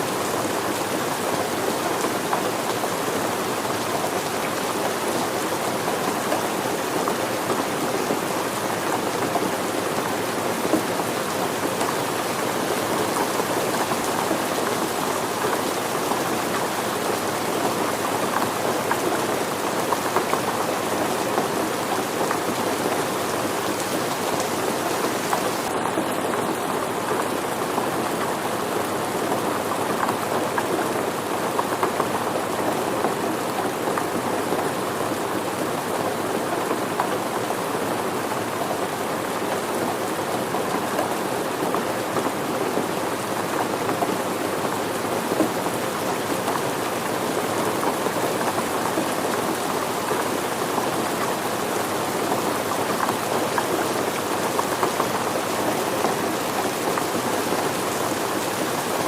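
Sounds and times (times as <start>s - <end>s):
rain pattering on surfaces: 0.1s - 59.0s.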